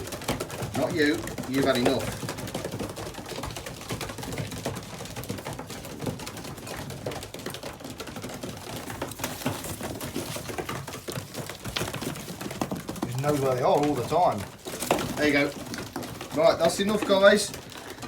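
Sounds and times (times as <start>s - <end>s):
pigeons pecking beak taps: 0.0s - 18.0s.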